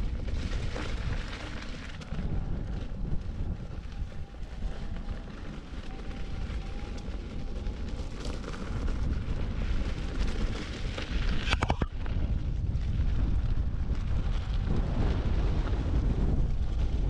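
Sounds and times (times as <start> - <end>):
faint electric motor whine: 0.0 - 17.0
wind buffeting microphone: 0.0 - 17.0.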